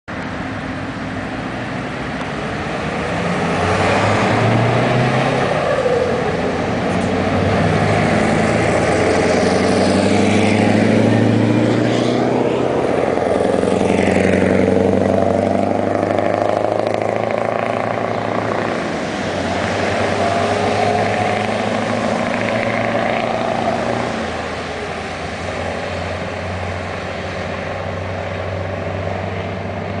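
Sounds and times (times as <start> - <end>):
diesel trucks accelerating past: 0.1 - 30.0.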